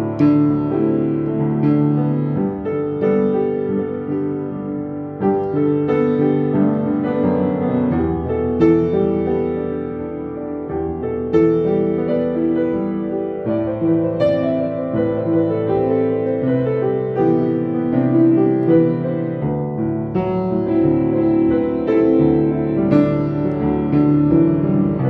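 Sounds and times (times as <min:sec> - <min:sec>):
slow piano piece: 0:00.0 - 0:25.0.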